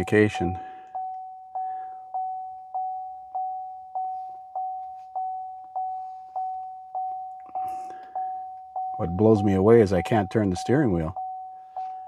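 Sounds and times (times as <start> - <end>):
car warning chime dinging: 0.0 - 12.0.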